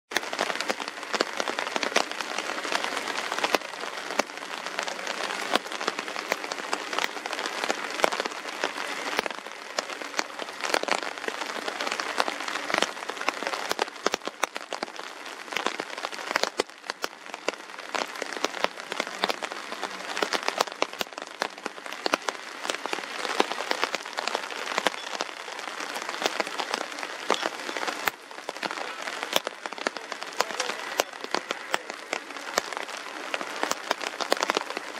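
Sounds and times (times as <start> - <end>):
rain with close drop hits: 0.1 - 34.9.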